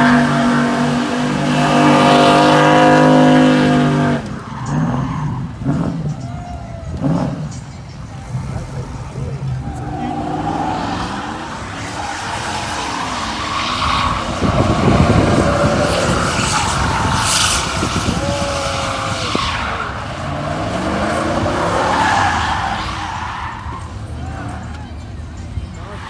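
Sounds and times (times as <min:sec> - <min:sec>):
truck engine revving: 0:00.0 - 0:06.3, 0:06.9 - 0:24.9
tires squealing on asphalt: 0:00.0 - 0:26.0.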